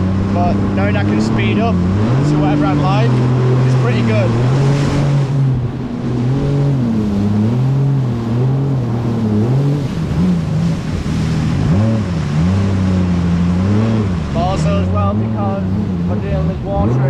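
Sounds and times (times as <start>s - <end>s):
jet ski engine: 0.0s - 17.0s
rush of wind and water: 0.0s - 17.0s.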